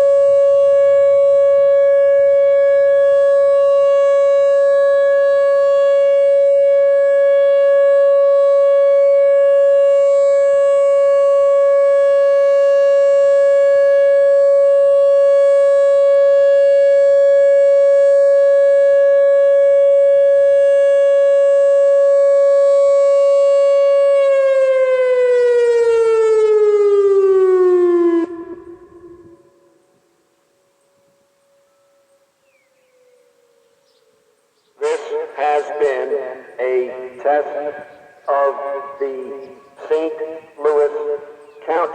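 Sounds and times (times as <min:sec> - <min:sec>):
outdoor warning siren: 0:00.0 - 0:41.9.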